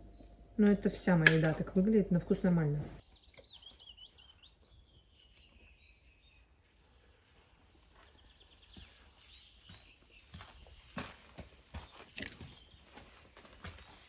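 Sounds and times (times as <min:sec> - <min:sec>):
faint birdsong chirps: 0:00.0 - 0:01.2, 0:03.0 - 0:14.0.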